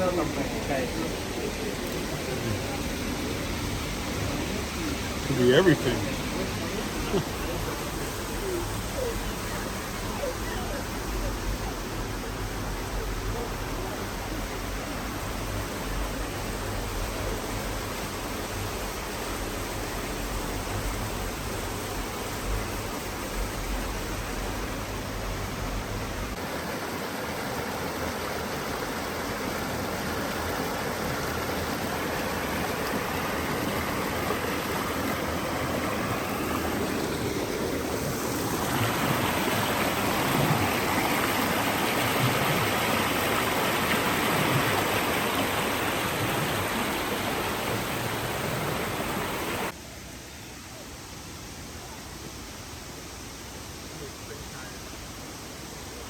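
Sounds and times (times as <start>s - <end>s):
water feature running: 0.0s - 49.8s.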